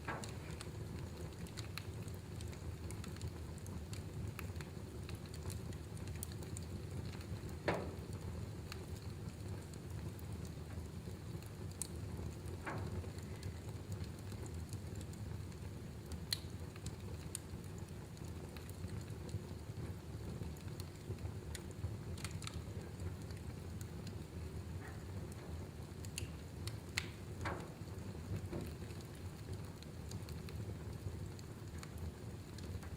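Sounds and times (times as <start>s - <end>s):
fire crackling and popping: 0.0s - 32.9s
low rumble of fire: 0.0s - 32.9s.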